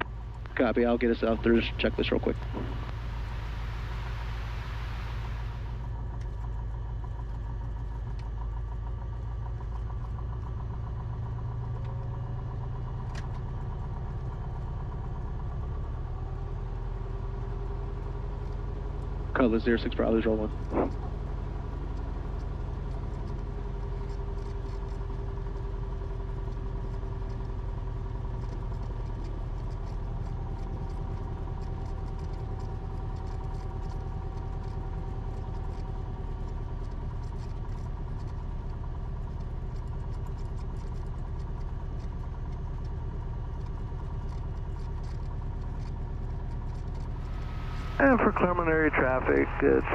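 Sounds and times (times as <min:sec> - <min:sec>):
light aircraft engine droning: 0:00.0 - 0:49.9.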